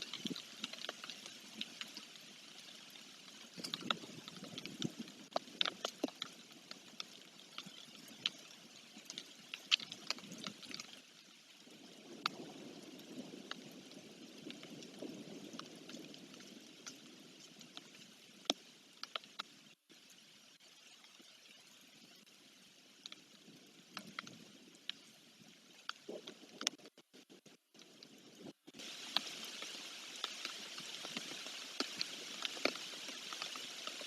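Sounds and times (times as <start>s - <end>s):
raindrops tapping: 0.0s - 20.1s, 23.0s - 25.1s, 25.7s - 34.0s
rain hissing: 0.0s - 34.0s.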